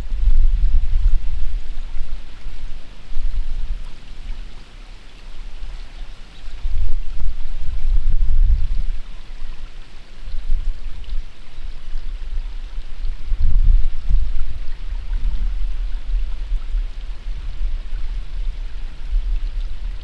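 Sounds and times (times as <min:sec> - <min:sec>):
steady hiss of wind: 0:00.0 - 0:20.0
wind buffeting microphone: 0:00.0 - 0:20.0.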